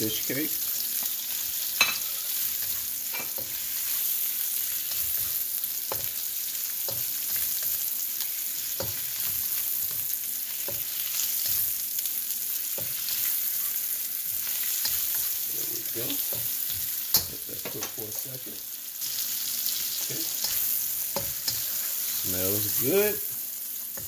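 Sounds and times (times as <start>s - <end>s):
food sizzling in hot oil: 0.0s - 24.0s
spatula scraping wok: 1.0s - 11.8s, 12.6s - 17.4s, 19.0s - 24.0s.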